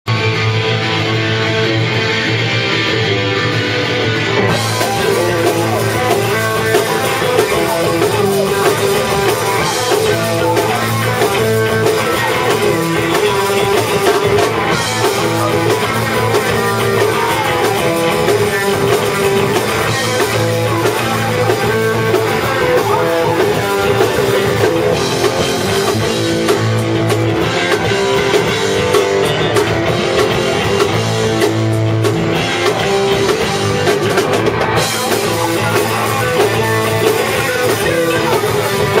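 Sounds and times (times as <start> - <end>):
rock band playing: 0.0 - 39.0.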